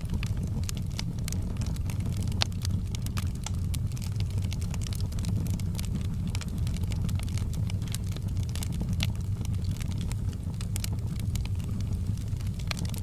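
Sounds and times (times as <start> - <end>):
fire crackling and popping: 0.0 - 13.0
low fire rumble: 0.0 - 13.0.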